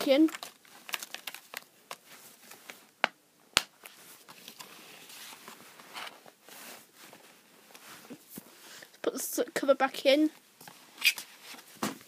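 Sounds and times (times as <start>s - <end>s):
soft rustling and shuffling: 0.0s - 3.0s, 3.8s - 12.0s.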